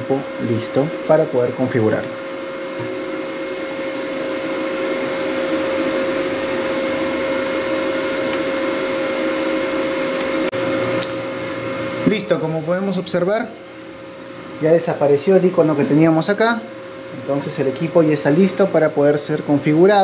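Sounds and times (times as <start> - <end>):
machine whirring and humming: 0.0 - 20.0.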